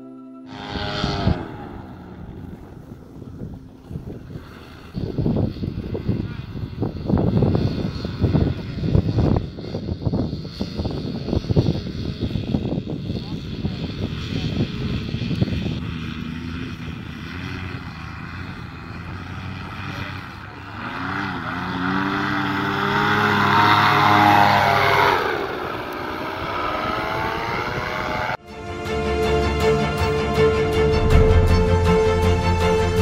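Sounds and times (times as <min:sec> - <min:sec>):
paramotor engine and propeller: 0:00.5 - 0:33.0.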